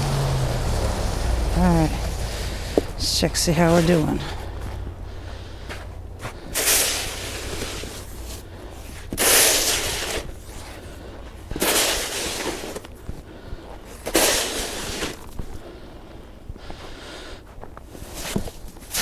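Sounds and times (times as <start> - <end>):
snow shovel scraping snow: 0.0 - 13.2, 13.9 - 15.6, 17.9 - 19.0.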